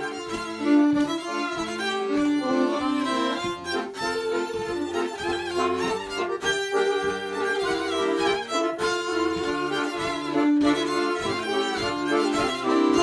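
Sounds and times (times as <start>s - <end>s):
accordion chords: 0.0s - 13.0s
violins bowing a melody: 0.0s - 13.0s.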